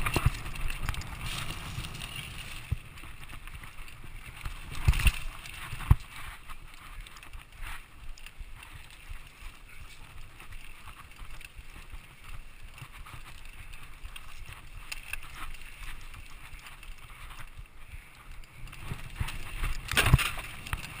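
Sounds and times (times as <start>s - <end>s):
bike rattling: 0.0s - 21.0s
bike tyres rumbling over dirt: 0.0s - 21.0s.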